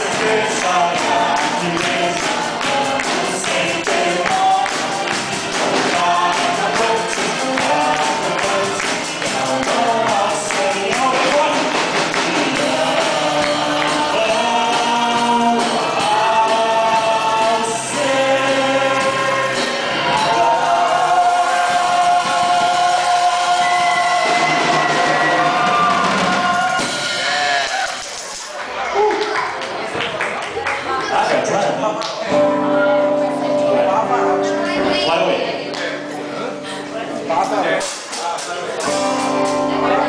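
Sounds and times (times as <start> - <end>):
group of voices singing: 0.0 - 28.0, 32.3 - 40.0.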